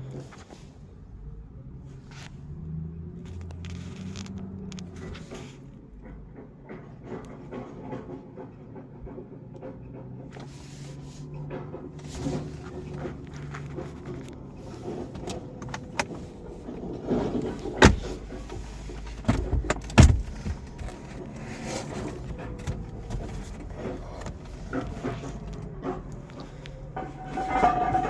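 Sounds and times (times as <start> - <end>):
clicks and knocks in car interior: 3.4 - 28.0.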